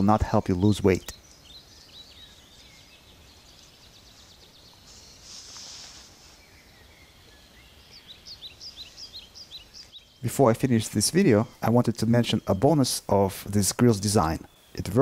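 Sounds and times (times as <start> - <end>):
small birds chirping: 0.0 - 15.0
soft rustling hiss: 0.3 - 15.0.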